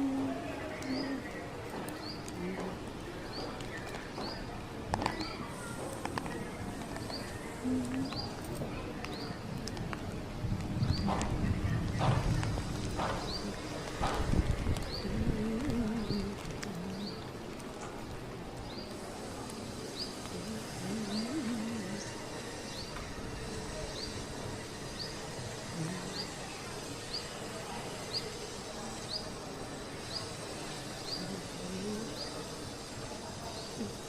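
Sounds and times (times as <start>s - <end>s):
rain hissing: 0.0s - 34.0s.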